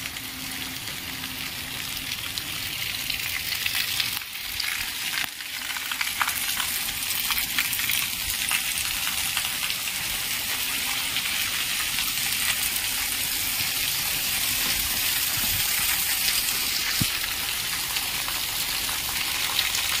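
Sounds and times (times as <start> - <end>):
heavy rain on pavement and roofs: 0.0 - 20.0.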